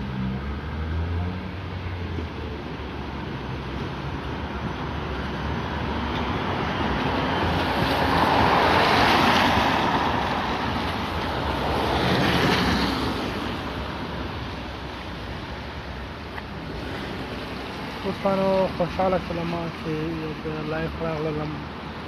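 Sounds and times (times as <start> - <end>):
tram passing on wet street: 0.0 - 22.0.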